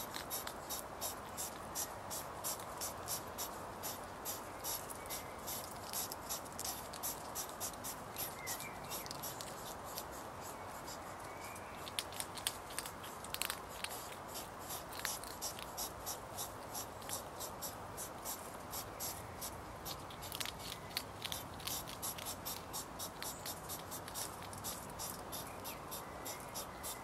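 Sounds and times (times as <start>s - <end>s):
faint steady hiss: 0.0s - 27.0s
hedgehogs chewing food: 0.0s - 27.0s.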